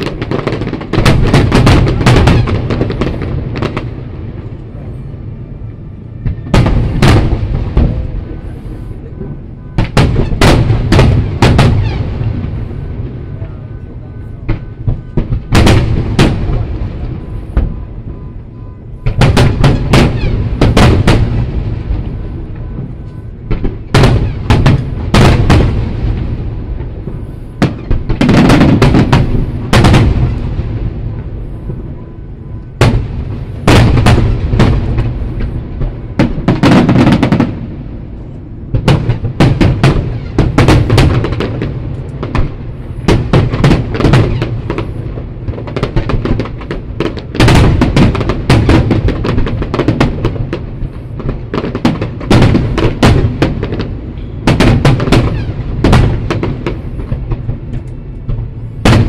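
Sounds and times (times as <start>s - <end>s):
fireworks booming and cracking: 0.0s - 59.0s.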